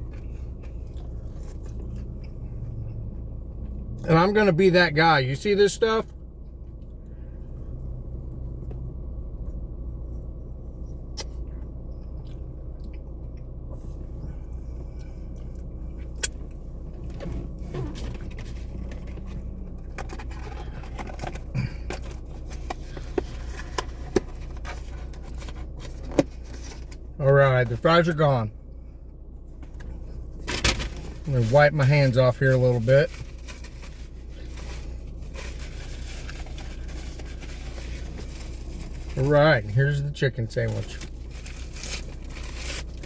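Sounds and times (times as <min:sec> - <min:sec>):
car interior rumble: 0:00.0 - 0:43.0.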